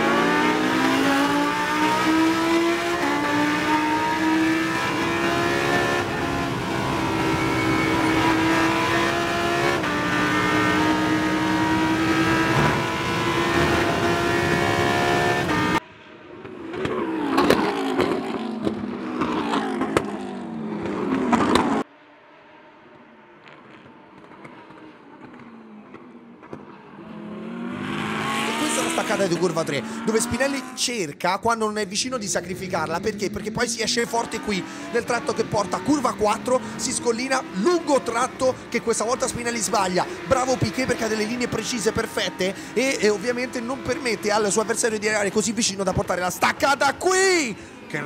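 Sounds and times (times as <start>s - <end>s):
race car accelerating hard: 0.0s - 15.8s, 16.4s - 31.0s, 32.4s - 48.0s
race cars racing past: 0.0s - 31.0s, 32.6s - 48.0s.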